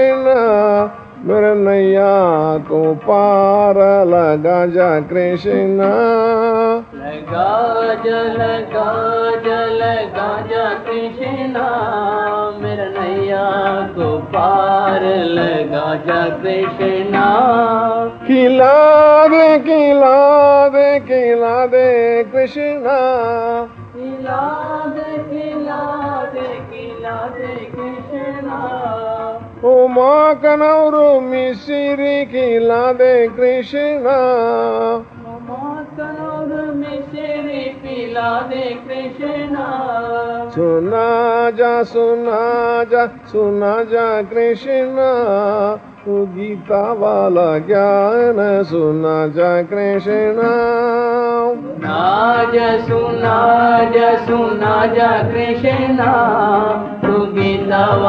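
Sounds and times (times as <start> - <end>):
person singing devotional melody: 0.0 - 58.0.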